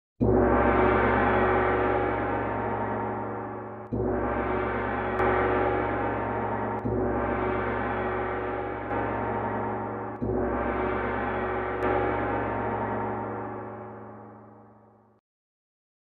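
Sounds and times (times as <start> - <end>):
gong-like metallic ringing: 0.2 - 14.9.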